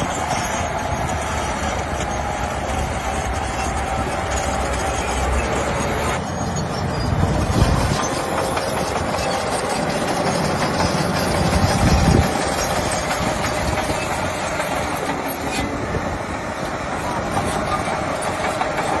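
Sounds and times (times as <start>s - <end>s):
heavy machinery diesel engines: 0.0s - 19.0s.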